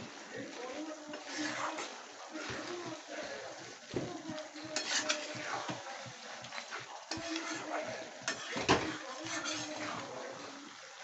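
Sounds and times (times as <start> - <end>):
spoon stirring and scraping pan: 0.0 - 11.0.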